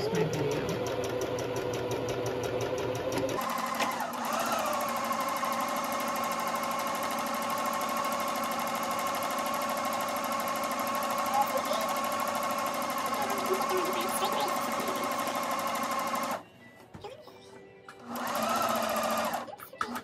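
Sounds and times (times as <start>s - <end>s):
sewing machine stitching: 0.0s - 16.4s, 17.9s - 20.0s.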